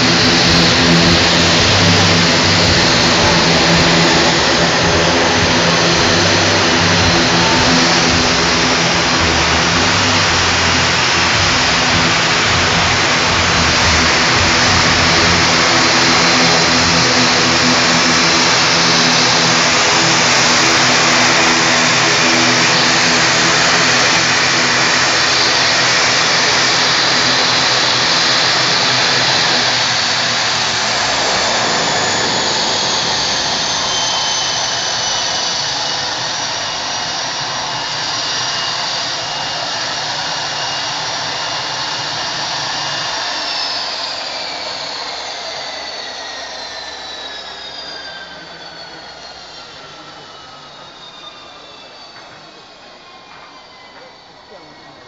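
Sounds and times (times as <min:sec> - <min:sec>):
propeller hum: 0:00.0 - 0:55.0
turbine whine: 0:00.0 - 0:55.0.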